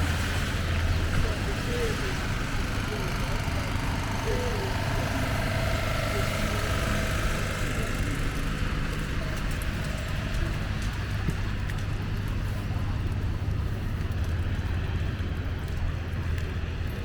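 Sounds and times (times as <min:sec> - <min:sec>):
faint engine tones: 0:00.0 - 0:17.0
low rumble of traffic: 0:00.0 - 0:17.0.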